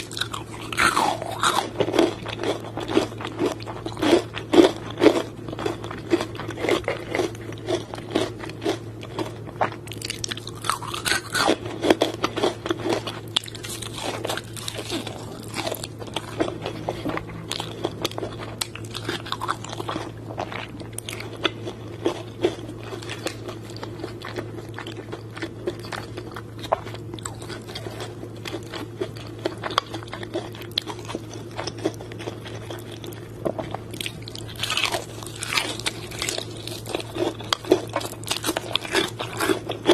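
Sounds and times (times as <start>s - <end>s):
crunching fried chicken: 0.0s - 39.9s
steady low hum: 0.0s - 39.9s.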